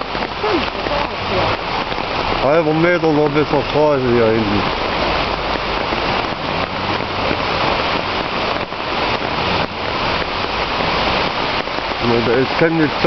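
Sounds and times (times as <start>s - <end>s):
falling rain: 0.0s - 13.0s
stream in flood rushing: 0.0s - 13.0s.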